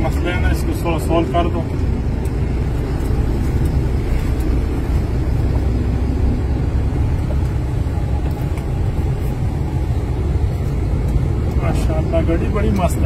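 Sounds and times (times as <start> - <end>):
diesel truck engine rumble: 0.0 - 13.0.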